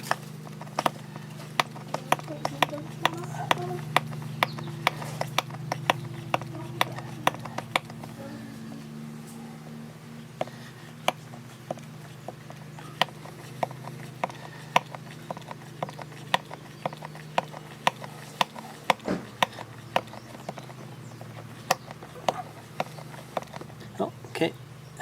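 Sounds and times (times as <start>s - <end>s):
hand pump clicking: 0.0s - 8.2s, 10.4s - 24.0s
steady low hum: 0.0s - 25.0s.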